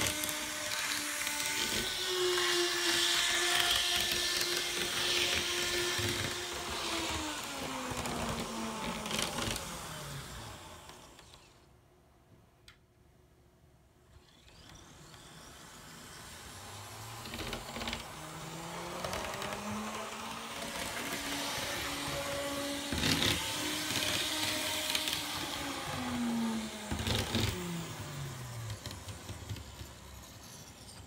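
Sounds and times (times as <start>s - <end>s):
model train motor whirring: 0.0s - 11.7s, 14.1s - 31.0s.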